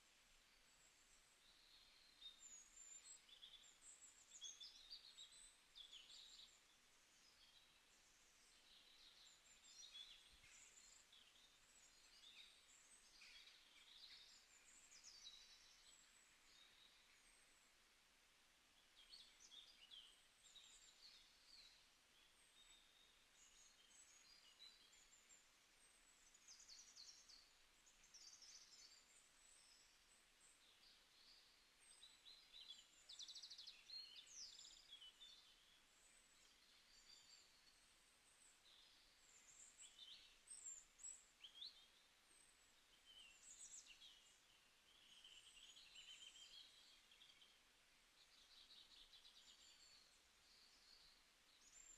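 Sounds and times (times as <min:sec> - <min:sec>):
soft hiss: 0:00.0 - 0:51.9.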